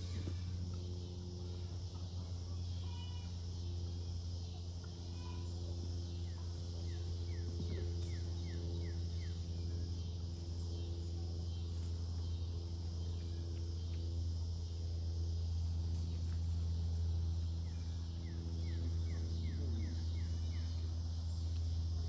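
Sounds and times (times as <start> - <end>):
insects chirping: 0.0 - 22.0
low mechanical hum: 0.0 - 22.0.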